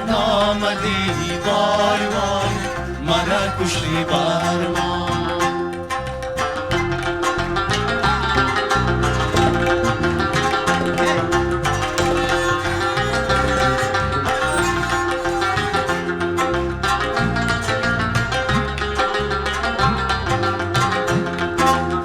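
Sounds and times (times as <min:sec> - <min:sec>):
drone strings: 0:00.0 - 0:22.0
plucked lute quick runs: 0:00.0 - 0:22.0
tabla drumming: 0:00.0 - 0:22.0.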